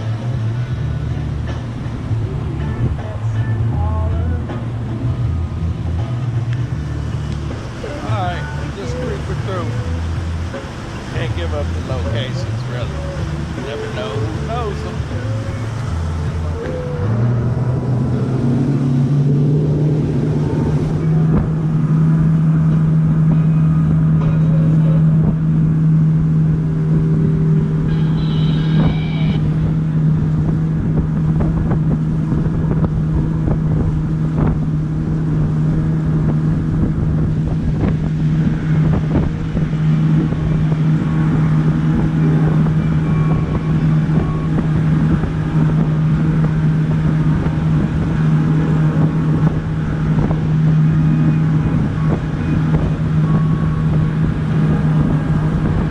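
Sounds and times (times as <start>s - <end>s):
boat motor running: 0.0s - 55.9s
wind buffeting microphone: 0.0s - 55.9s.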